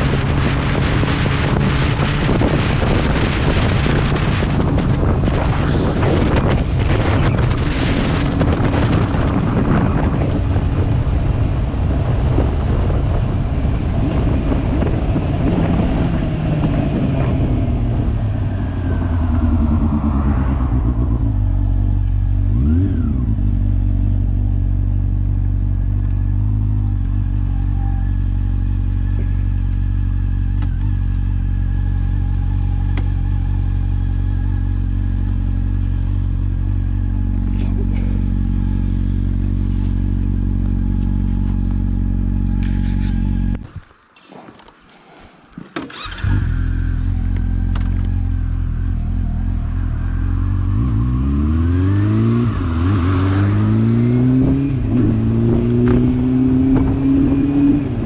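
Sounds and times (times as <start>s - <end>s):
motorcycle engine running: 0.0s - 44.7s, 45.9s - 58.0s.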